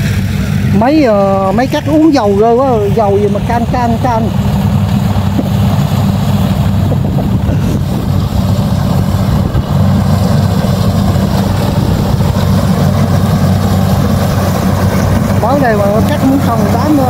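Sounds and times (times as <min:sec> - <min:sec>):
combine harvester engine humming: 0:00.0 - 0:17.0.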